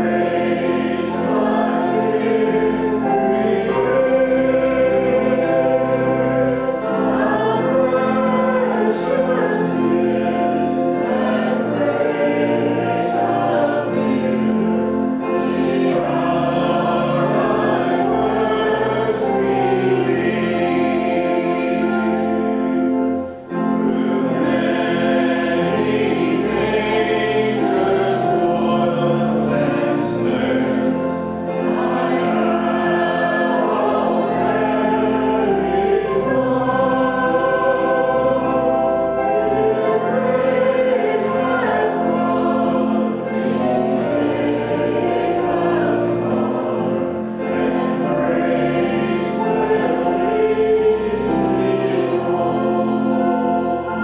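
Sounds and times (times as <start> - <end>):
congregation singing a hymn: 0.0 - 54.0
organ accompaniment: 0.0 - 54.0.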